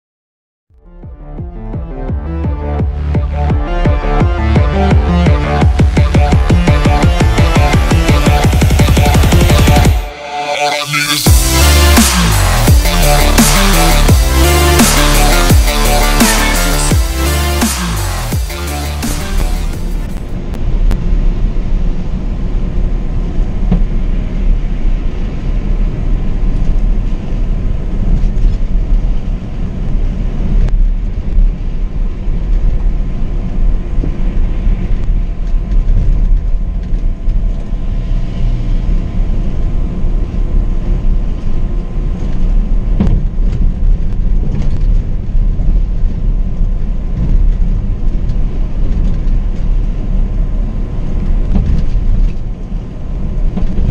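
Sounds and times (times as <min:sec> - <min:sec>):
road rumble: 0:00.7 - 0:53.9
coach engine drone: 0:00.8 - 0:53.9.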